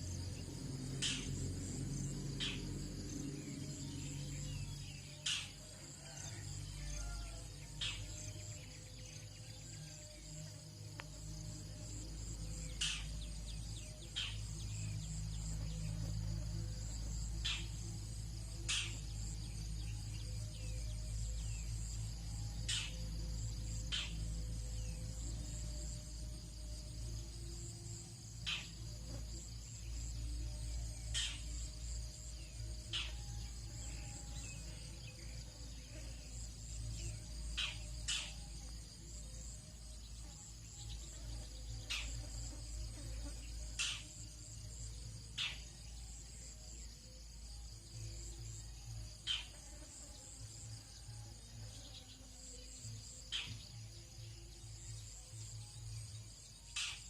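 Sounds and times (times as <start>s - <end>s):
crickets and insects chorus: 0.0s - 57.0s.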